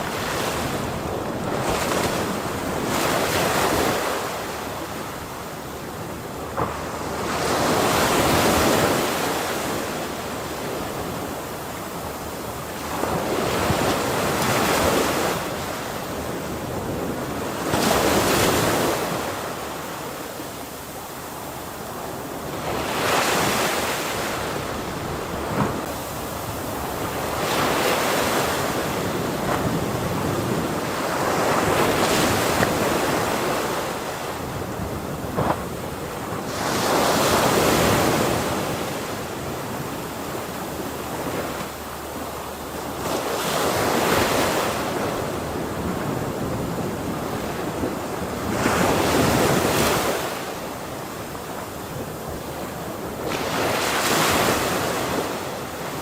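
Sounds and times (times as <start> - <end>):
ocean waves crashing: 0.0 - 56.0.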